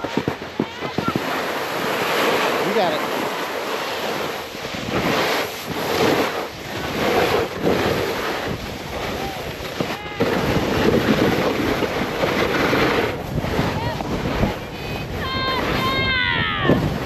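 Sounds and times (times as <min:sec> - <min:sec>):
snowboard scraping through slushy snow: 0:00.0 - 0:16.0
wind rushing over microphone: 0:00.0 - 0:17.0.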